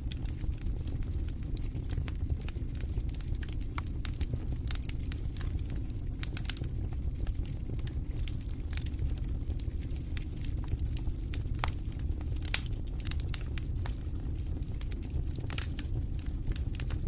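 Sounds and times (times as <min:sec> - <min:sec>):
fire flames rumbling: 0:00.0 - 0:17.0
fire pops and snaps: 0:00.0 - 0:17.0.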